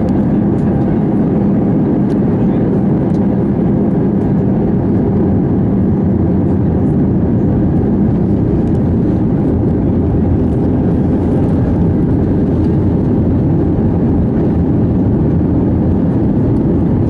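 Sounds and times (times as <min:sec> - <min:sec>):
aircraft cabin engine rush: 0:00.0 - 0:17.0.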